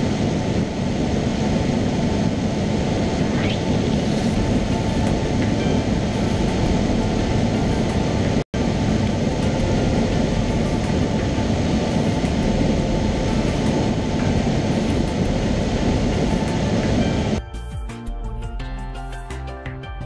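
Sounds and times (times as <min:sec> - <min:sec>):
airplane engine drone in cabin: 0:00.0 - 0:17.4.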